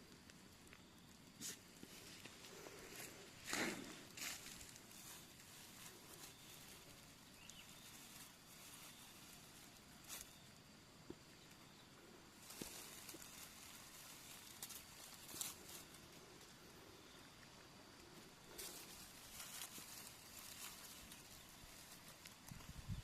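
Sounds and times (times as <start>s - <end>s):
faint rustles and twig snaps: 0.0s - 23.0s.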